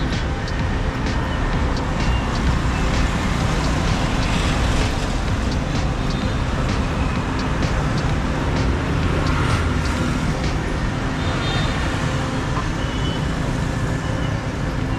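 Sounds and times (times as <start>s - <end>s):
city street traffic: 0.0s - 14.9s.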